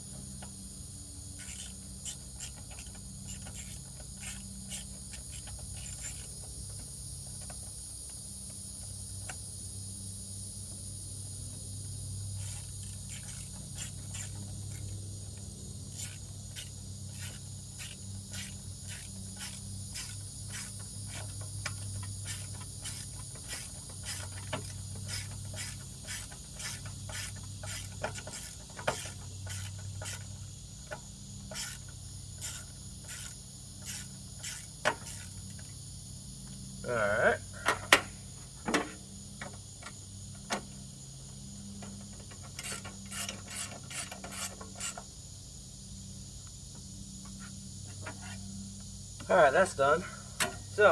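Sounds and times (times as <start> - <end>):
high-pitched insect-like whine: 0.1 - 37.6, 38.4 - 50.9.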